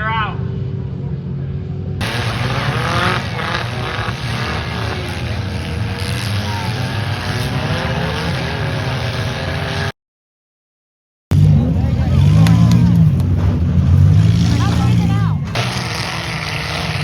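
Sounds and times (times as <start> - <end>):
racing car engines revving: 0.0 - 10.0, 11.3 - 17.0.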